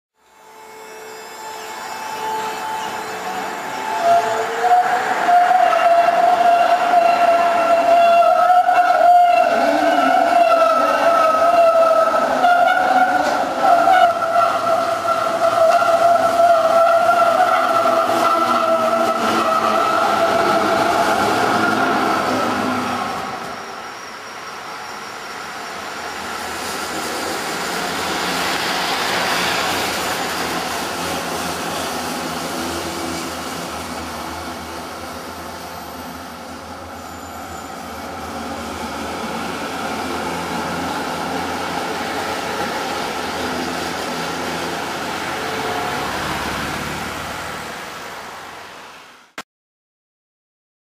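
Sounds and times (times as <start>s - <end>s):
tram wheel squeal: 0.2s - 47.5s
tram rolling on rails: 0.5s - 49.0s.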